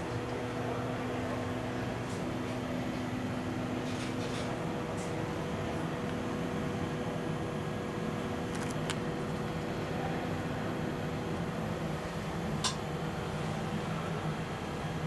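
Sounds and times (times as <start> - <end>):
train ventilation fans humming: 0.0 - 15.0.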